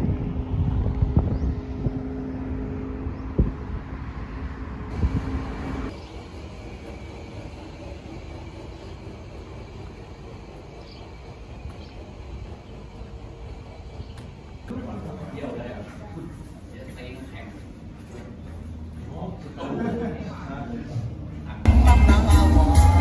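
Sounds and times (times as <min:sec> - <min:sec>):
highway traffic passing: 0:00.0 - 0:23.0.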